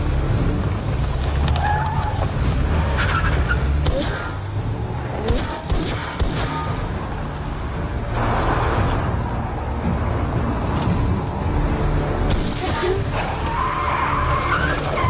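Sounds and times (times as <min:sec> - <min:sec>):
low action film music: 0:00.0 - 0:15.0.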